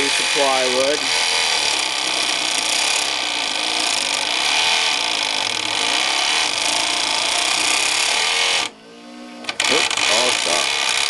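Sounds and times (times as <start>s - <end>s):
scroll saw cutting plywood: 0.0s - 8.7s, 9.4s - 11.0s.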